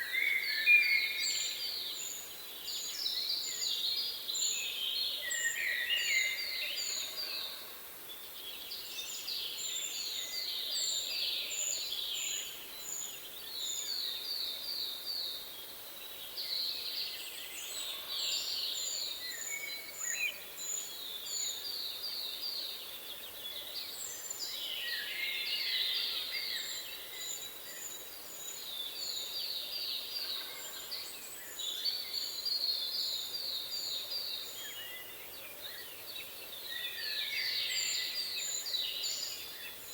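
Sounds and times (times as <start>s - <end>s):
songbird trill: 0.0s - 39.9s.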